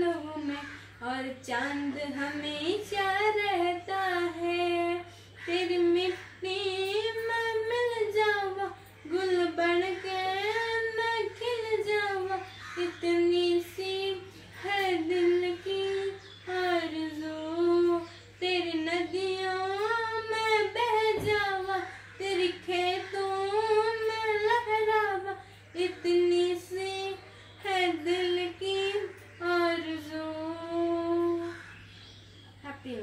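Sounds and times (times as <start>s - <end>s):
girl singing unaccompanied: 0.0s - 31.6s
faint low hum: 0.0s - 33.0s.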